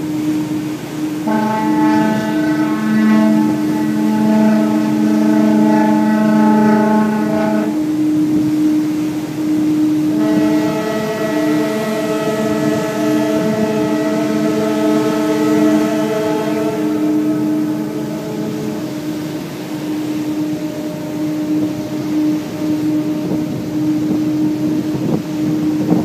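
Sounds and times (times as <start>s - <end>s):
ship horn blasts: 0.0s - 26.0s.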